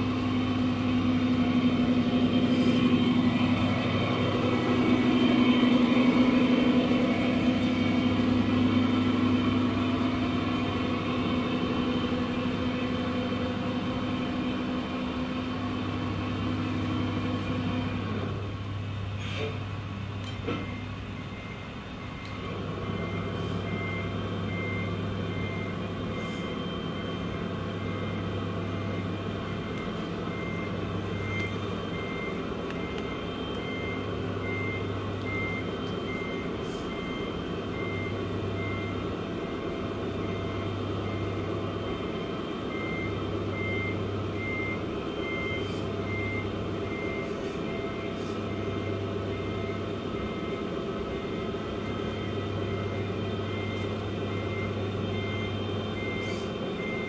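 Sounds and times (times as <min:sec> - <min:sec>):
reversing beeper: 0:00.0 - 0:17.5, 0:20.4 - 0:57.0
diesel engine running sound: 0:00.0 - 0:57.0.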